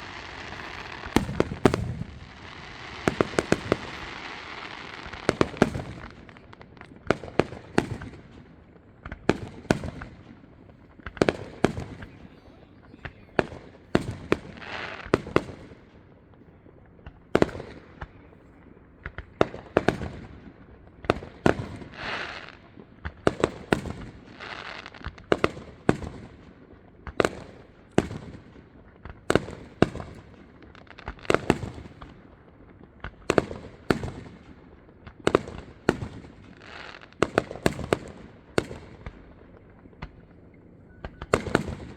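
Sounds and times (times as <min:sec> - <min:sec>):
fireworks crackling: 0:00.0 - 0:15.9, 0:19.0 - 0:41.9
fireworks bursting with booms: 0:00.0 - 0:41.9.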